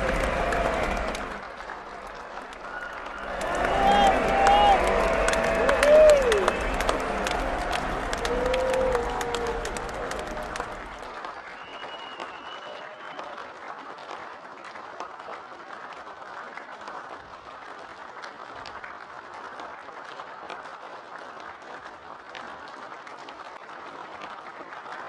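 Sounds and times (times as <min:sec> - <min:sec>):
crowd applauding: 0:00.0 - 0:25.0.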